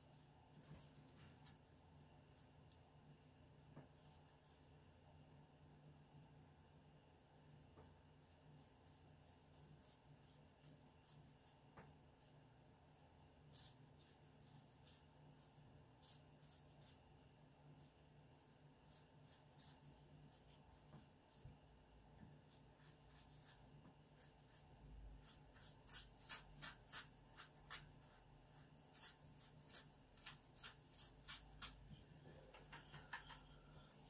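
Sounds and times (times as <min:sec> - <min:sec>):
brush scratching on paper: 0:00.0 - 0:04.9, 0:07.8 - 0:34.0.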